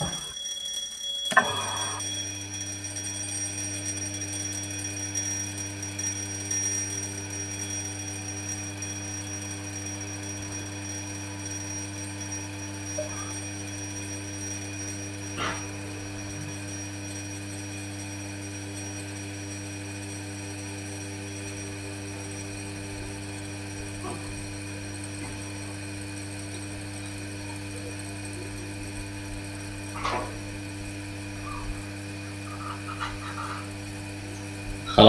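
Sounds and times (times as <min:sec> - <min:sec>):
vacuum pump humming: 0:00.0 - 0:35.0.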